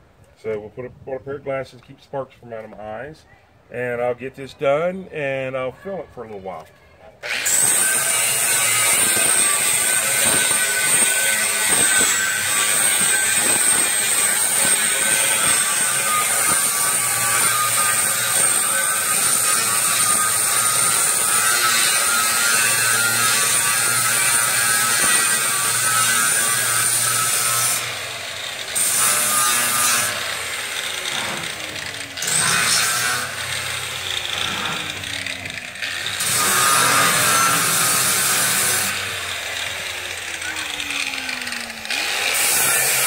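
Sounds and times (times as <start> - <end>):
angle grinder grinding metal: 7.2 - 43.0.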